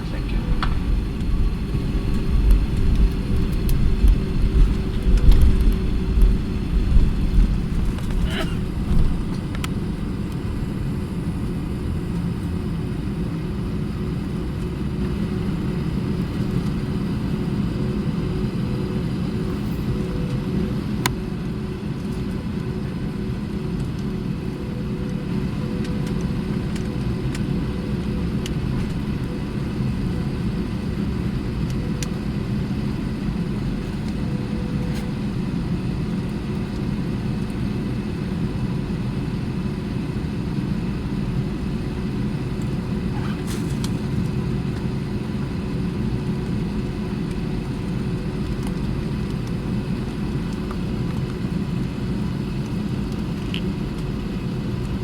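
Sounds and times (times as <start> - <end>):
airplane engines idling in cabin: 0.0 - 55.0.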